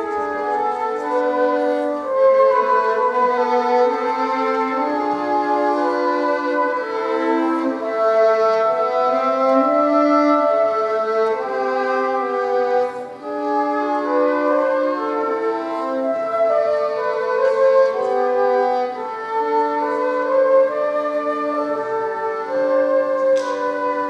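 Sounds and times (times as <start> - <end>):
flute: 0.0 - 24.0
violin: 0.0 - 24.0.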